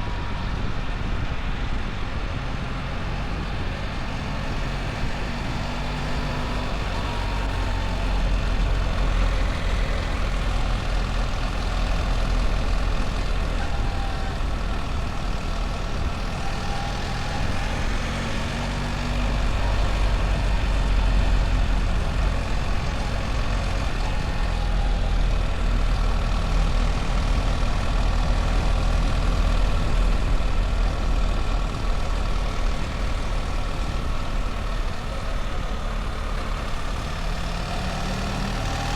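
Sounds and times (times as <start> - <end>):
motorcycle engine rumble: 0.0 - 38.9
wind and road noise: 0.0 - 38.9.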